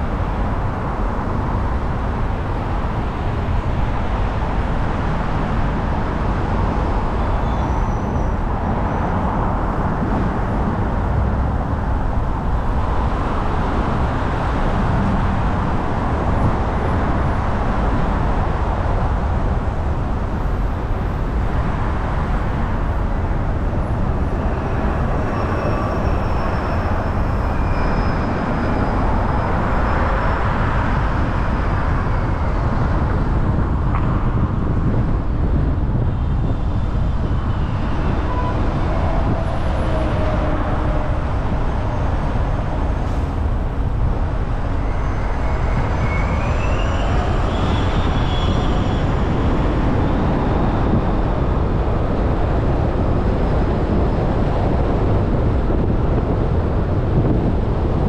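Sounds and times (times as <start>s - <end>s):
car road noise: 0.0s - 58.0s.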